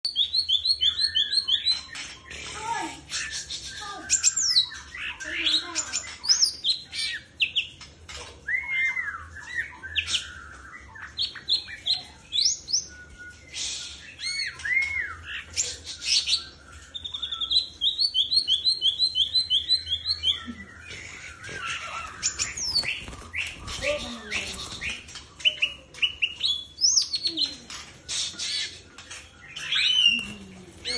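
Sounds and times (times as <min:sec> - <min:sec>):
bird singing whistled notes: 0:00.0 - 0:02.0, 0:03.1 - 0:06.8, 0:08.5 - 0:30.9
harsh squawky bird calls: 0:00.1 - 0:07.9, 0:13.5 - 0:30.9.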